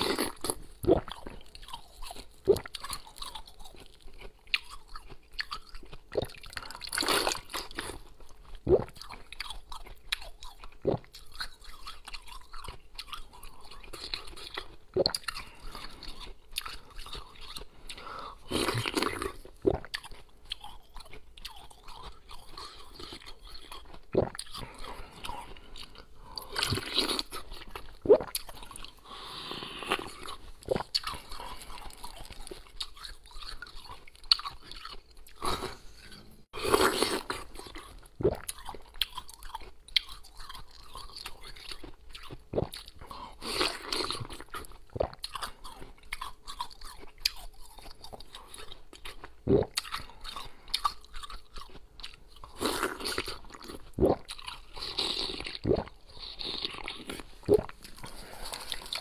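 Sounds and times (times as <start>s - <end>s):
grinding chewing: 0.0s - 59.0s
ice crunching while chewed: 0.0s - 59.0s.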